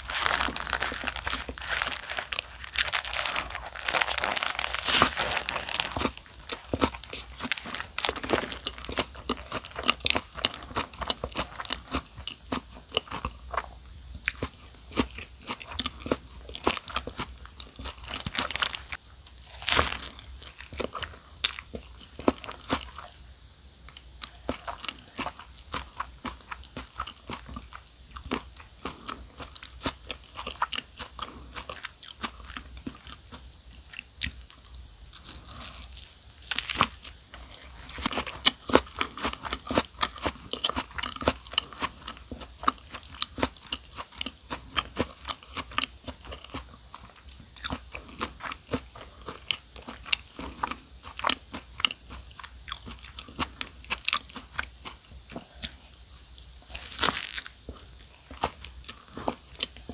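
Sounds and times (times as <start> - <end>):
chewing and crunching sandwich: 0.0 - 23.2, 23.9 - 59.9.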